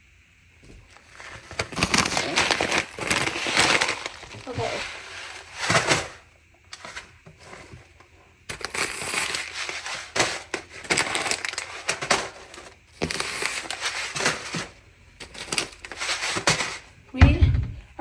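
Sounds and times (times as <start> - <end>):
crinkling and crushing: 0.6 - 17.2.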